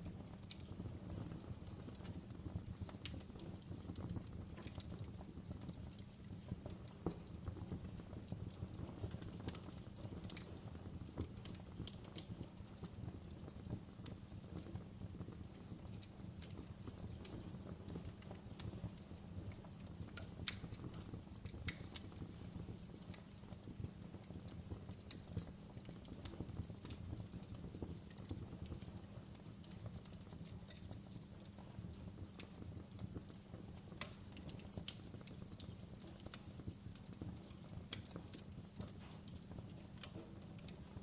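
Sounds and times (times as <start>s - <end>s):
fire crackles and pops: 0.0s - 41.0s
flames rumbling: 0.0s - 41.0s.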